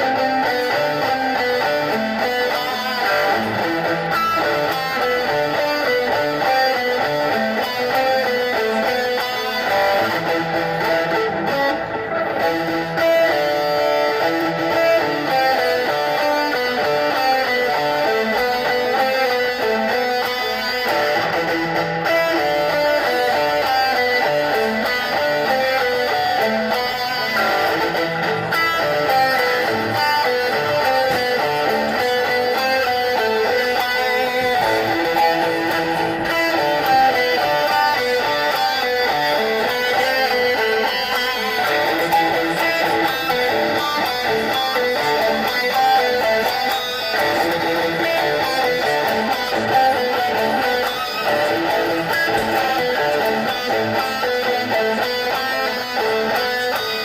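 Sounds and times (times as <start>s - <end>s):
guitar music: 0.0s - 57.0s.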